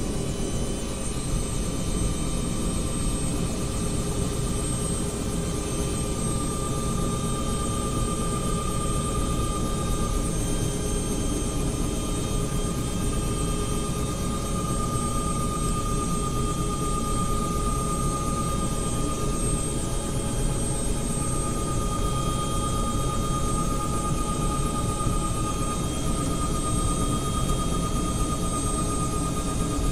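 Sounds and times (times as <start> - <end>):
helicopter engine whine and rumble: 0.0 - 29.9.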